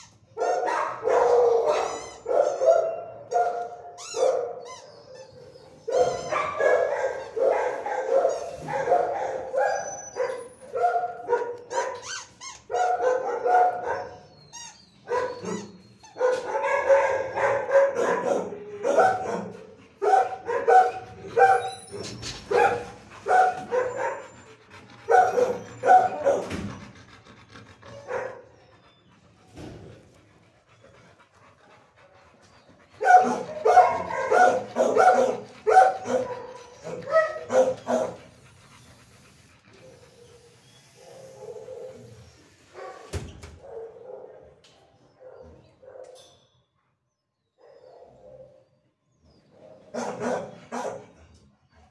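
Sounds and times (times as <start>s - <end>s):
dogs barking: 0.3s - 14.4s, 15.0s - 29.4s, 30.0s - 46.3s, 49.4s - 51.9s.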